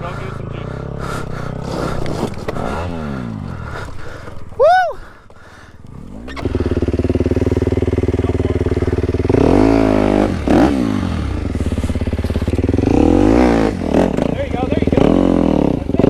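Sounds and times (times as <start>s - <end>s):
dirt bike engine revving: 0.0s - 4.3s, 5.9s - 16.0s.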